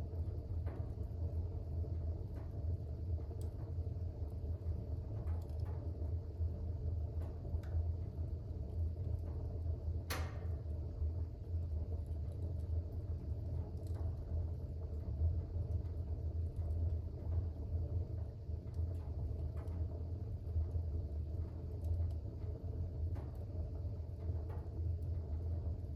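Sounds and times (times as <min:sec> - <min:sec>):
fire burning in fireplace: 0:00.0 - 0:25.9
fire crackling and popping: 0:00.0 - 0:25.9.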